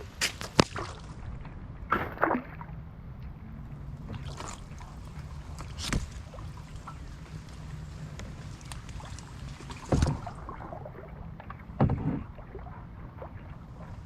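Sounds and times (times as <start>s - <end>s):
paddle splashing and dripping: 0.0s - 2.7s, 4.0s - 14.0s
steady low rumble: 0.0s - 14.0s.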